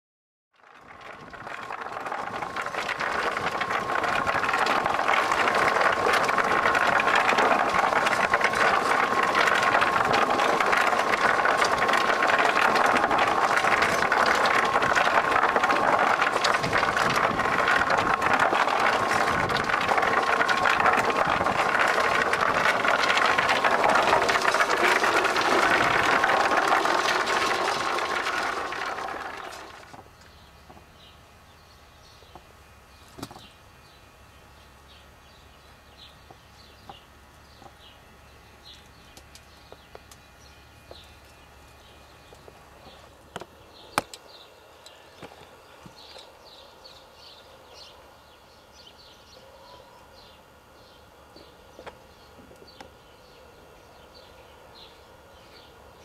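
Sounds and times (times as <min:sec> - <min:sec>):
machine running with high hum: 0:00.6 - 0:56.0.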